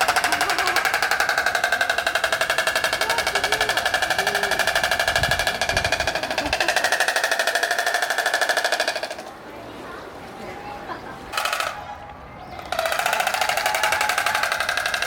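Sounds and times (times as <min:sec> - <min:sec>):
stork bill clattering: 0:00.0 - 0:09.4, 0:11.3 - 0:15.0.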